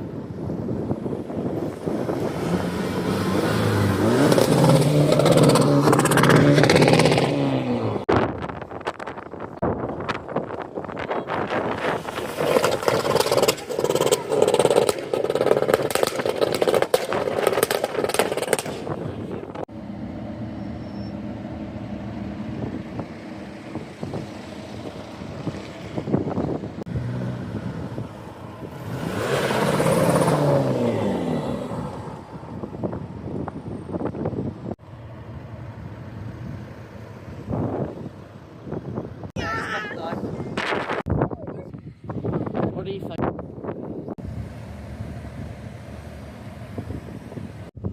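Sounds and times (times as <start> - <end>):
wind buffeting microphone: 0.0 - 7.3, 8.1 - 19.7, 22.4 - 31.0, 31.8 - 34.8, 36.2 - 44.5, 46.5 - 47.9
car engines: 0.0 - 47.9.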